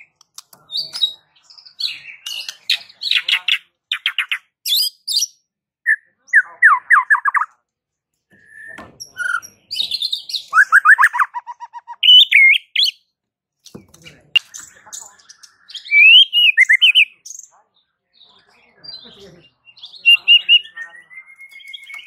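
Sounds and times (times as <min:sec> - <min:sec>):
bird singing trills and whistles: 0:00.0 - 0:07.5, 0:08.4 - 0:13.1, 0:14.4 - 0:17.6, 0:18.3 - 0:22.0.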